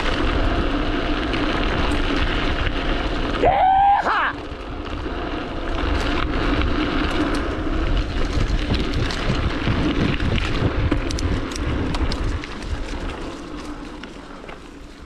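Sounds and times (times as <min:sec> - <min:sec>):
wind on microphone: 0:00.0 - 0:14.0
bicycle rattling over bumps: 0:00.0 - 0:15.0
bicycle tyres on dirt track: 0:00.0 - 0:15.0.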